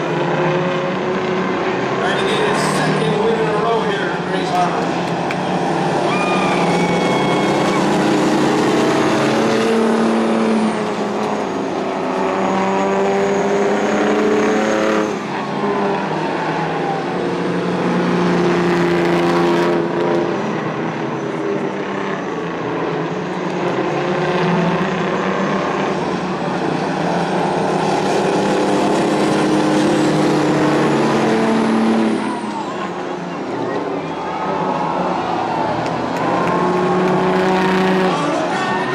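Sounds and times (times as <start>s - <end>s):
racing truck engines passing: 0.0s - 38.9s.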